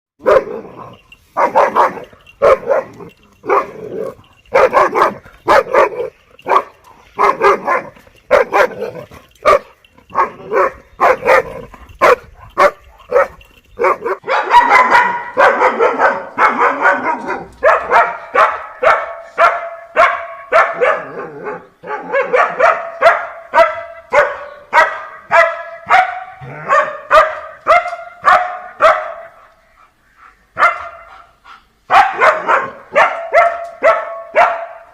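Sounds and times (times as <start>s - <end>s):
dogs barking: 0.2s - 29.6s, 30.6s - 34.9s.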